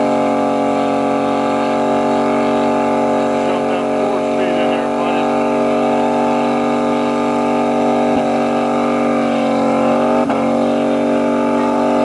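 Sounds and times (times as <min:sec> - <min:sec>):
car engine revving high: 0:00.0 - 0:12.0.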